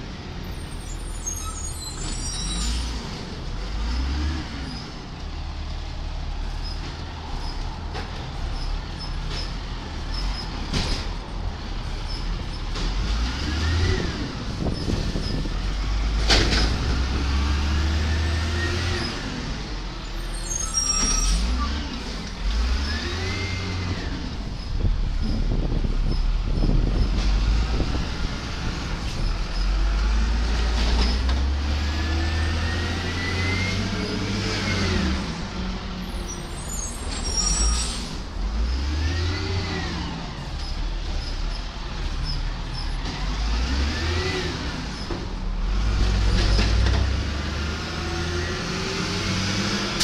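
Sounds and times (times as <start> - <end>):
diesel truck engine revving: 2.6 - 7.6, 8.4 - 20.4, 21.3 - 36.3, 37.3 - 50.0.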